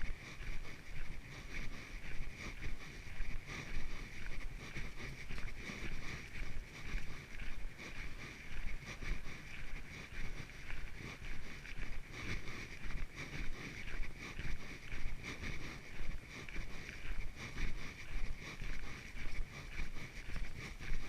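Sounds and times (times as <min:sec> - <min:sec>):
footsteps on trail: 0:00.0 - 0:21.0.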